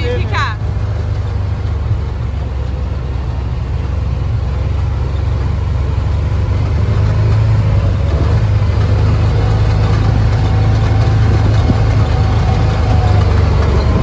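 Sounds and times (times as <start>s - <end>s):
vehicle engine low drone: 0.0s - 14.0s.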